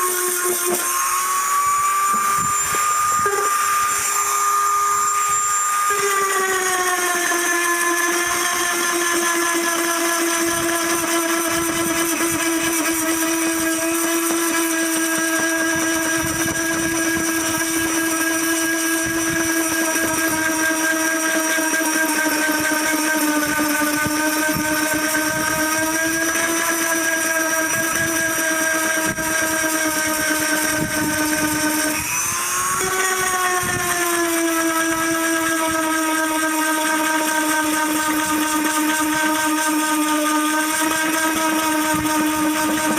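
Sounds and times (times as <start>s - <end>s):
rotary tool sanding hide: 0.0s - 42.9s.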